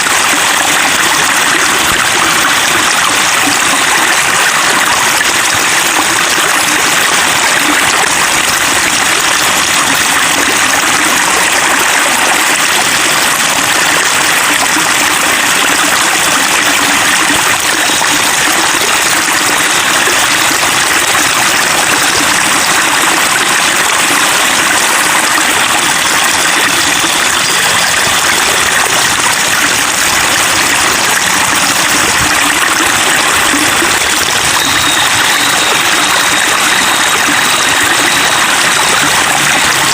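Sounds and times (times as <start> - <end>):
flowing water babbling: 0.0 - 39.9.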